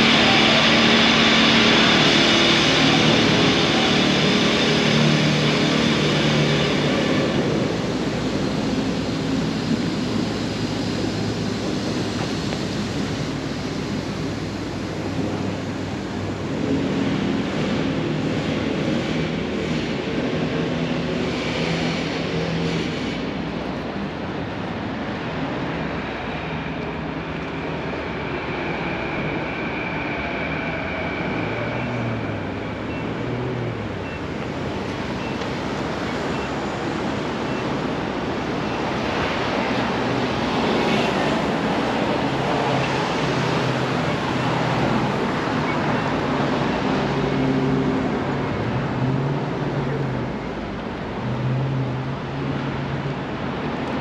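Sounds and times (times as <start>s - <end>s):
traffic passing by: 0.0s - 54.0s.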